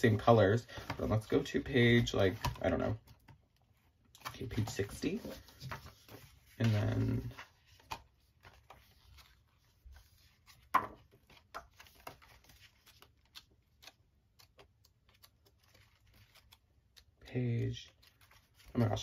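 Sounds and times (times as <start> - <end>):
pages turning: 0.1 - 19.0.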